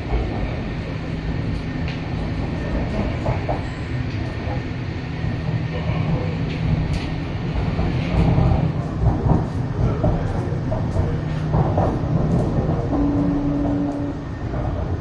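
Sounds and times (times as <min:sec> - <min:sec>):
electric train rumble and hum: 0:00.0 - 0:15.0.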